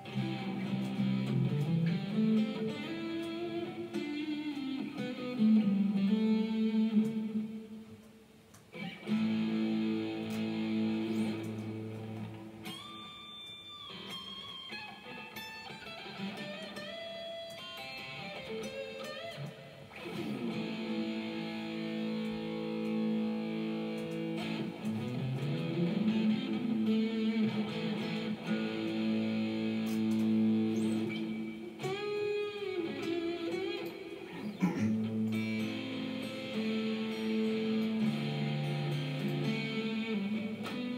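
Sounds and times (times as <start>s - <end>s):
electric guitar notes with bends: 0.0s - 40.9s.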